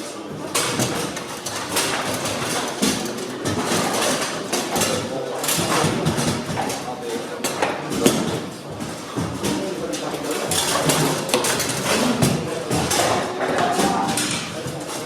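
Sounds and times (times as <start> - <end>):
voices in a hall: 0.0 - 15.0.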